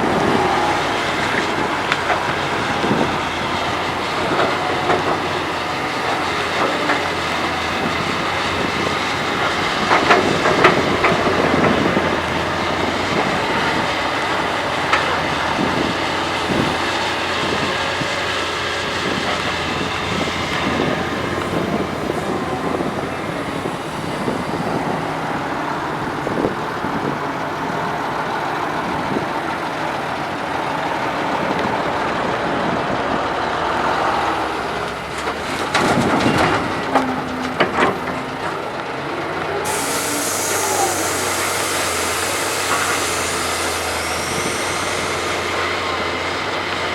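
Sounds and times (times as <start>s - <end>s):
excavator engine and hydraulics: 0.0s - 46.9s.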